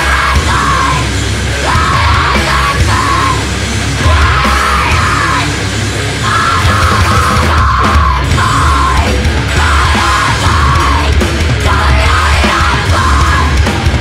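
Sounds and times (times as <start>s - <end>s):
person screaming vocals: 0.0s - 5.6s, 6.2s - 13.6s
heavy distorted metal music: 0.0s - 14.0s.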